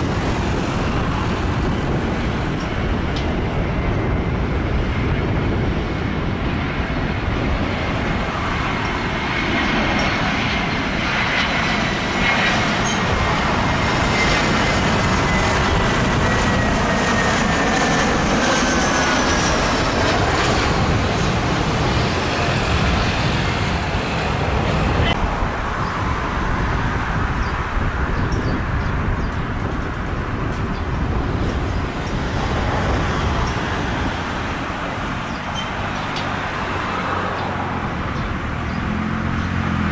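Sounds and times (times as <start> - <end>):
high turbine whine: 0.0 - 39.9
jet airliner roar: 0.0 - 39.9.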